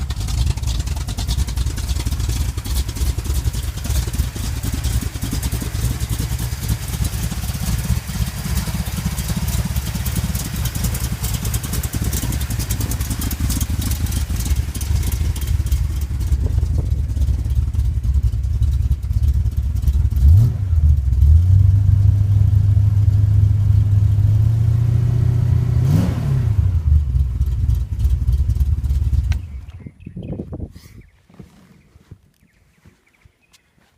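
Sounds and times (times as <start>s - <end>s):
engine clatter: 0.0s - 30.1s
engine rumbling: 0.0s - 33.9s.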